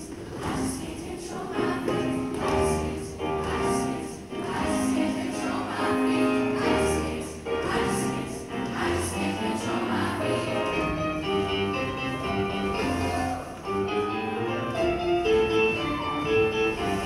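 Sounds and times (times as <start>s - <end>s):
choir singing held chords: 0.0s - 14.6s.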